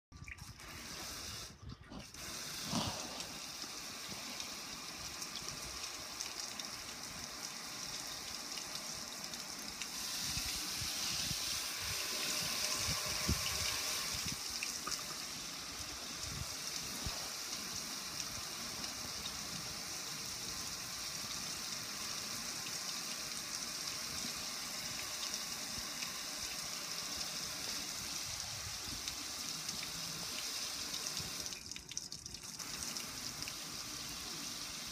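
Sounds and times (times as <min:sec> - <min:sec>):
water splashing over metal grill: 0:00.1 - 0:34.9.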